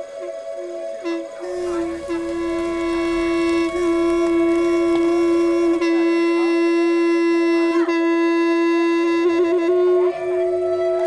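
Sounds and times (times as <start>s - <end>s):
horn blown in long note: 0.0s - 11.0s.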